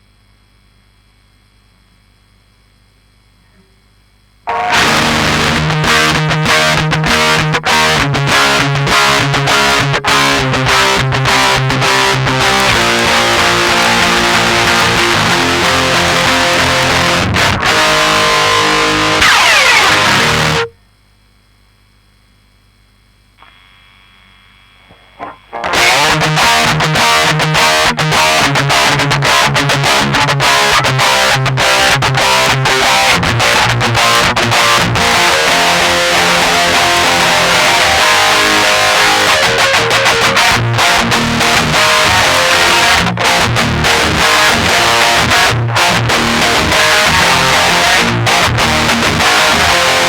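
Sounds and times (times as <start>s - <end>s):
faint amp hum: 0.0s - 50.0s
distorted electric guitar strumming: 4.4s - 20.8s, 23.4s - 50.0s.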